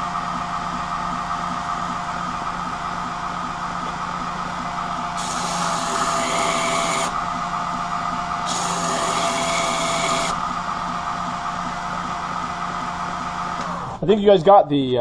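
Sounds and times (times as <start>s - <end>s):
belt grinder running: 0.0s - 14.0s.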